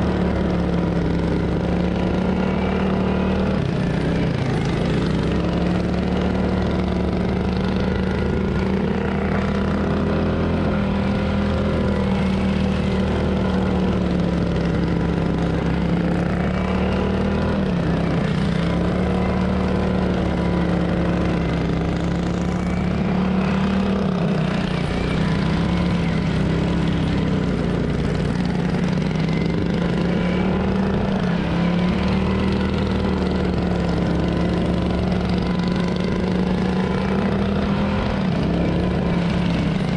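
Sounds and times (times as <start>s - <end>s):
lawn tractor engine running hard: 0.0s - 39.9s.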